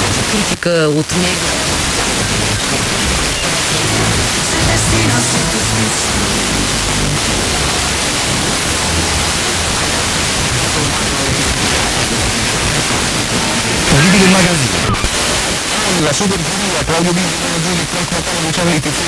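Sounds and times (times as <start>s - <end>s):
faint distant radio station: 0.0s - 19.0s
radio static hiss: 0.0s - 19.0s.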